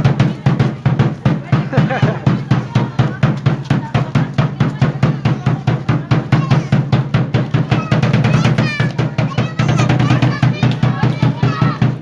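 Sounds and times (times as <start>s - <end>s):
drum beating fast: 0.0s - 12.0s.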